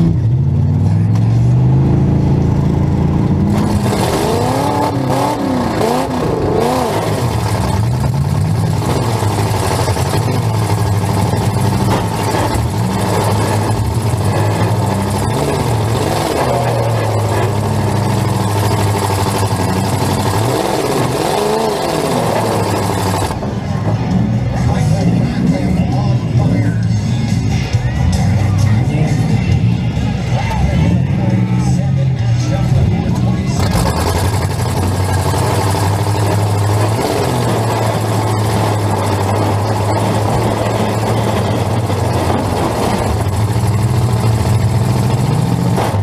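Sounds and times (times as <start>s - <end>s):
car engine revving: 0.0s - 27.3s, 32.5s - 46.0s.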